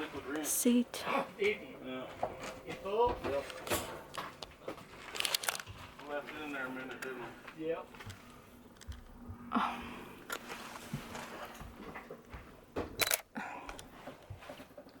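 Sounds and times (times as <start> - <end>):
knocks and rustles of movement: 2.1 - 9.5, 10.2 - 15.0.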